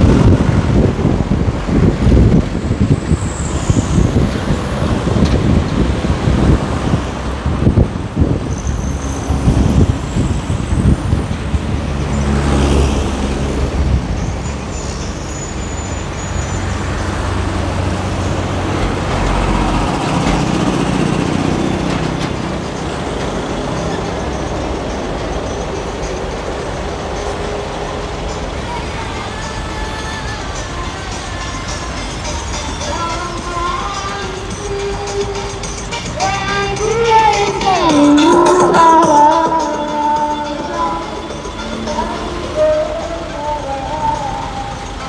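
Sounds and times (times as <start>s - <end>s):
deep engine rumble: 0.0s - 31.2s, 31.9s - 45.0s
city road traffic: 0.0s - 45.0s.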